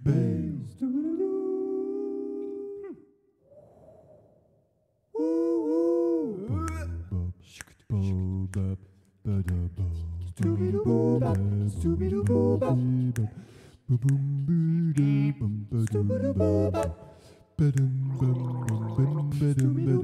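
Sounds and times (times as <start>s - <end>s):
voices humming and singing: 0.0s - 3.1s, 5.2s - 20.0s.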